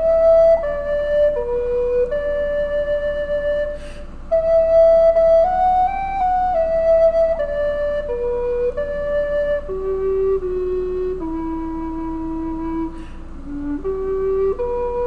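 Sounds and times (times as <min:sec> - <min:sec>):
slow solo melody: 0:00.0 - 0:15.0.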